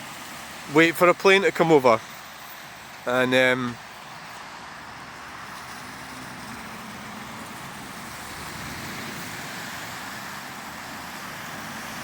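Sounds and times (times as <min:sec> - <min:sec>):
tyres hissing on road: 0:00.0 - 0:12.0.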